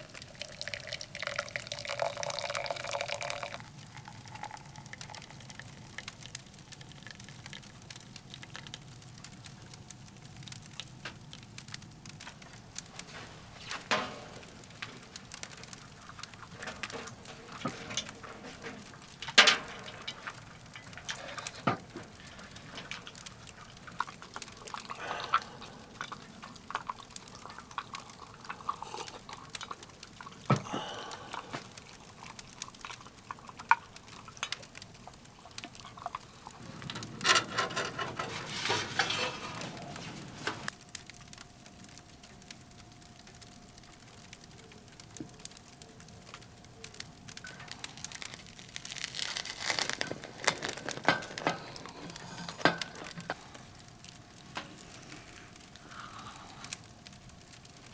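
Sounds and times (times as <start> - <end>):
firewood crackling in a stove: 0.0 - 57.9.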